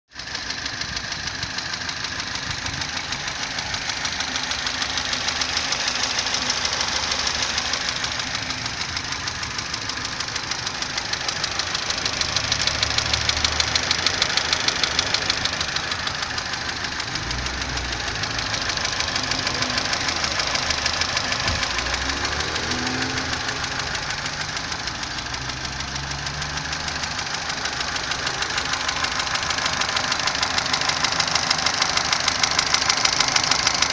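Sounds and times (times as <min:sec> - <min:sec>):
petrol engine clattering: 0:00.2 - 0:33.9.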